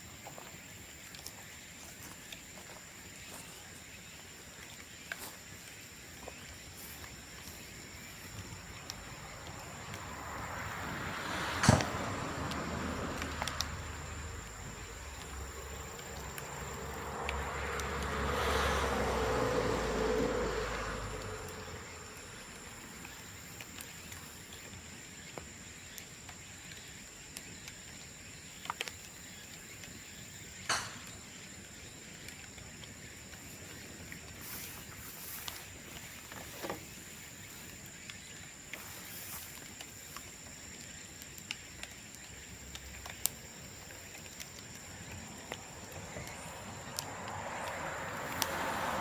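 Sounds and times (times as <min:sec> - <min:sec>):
bamboo bonfire crackling: 0:00.0 - 0:49.0
high insect drone: 0:00.4 - 0:49.0.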